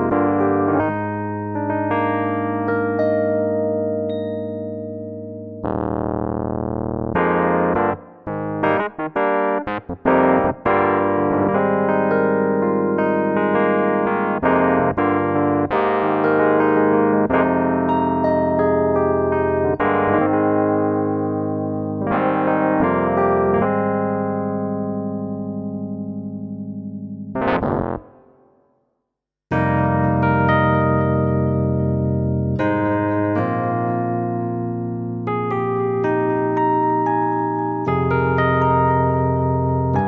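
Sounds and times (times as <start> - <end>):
electric piano chords: 0.0 - 28.2, 29.5 - 40.0.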